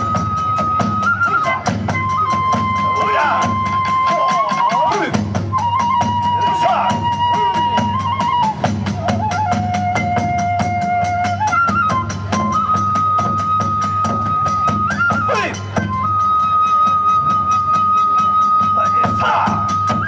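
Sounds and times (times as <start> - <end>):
bamboo flute long notes: 0.0 - 20.0
steady drum beat: 0.0 - 20.0.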